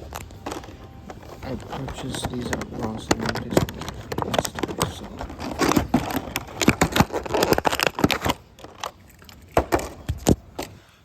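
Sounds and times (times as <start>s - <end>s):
toy cars clattering down plastic track: 1.4s - 10.4s.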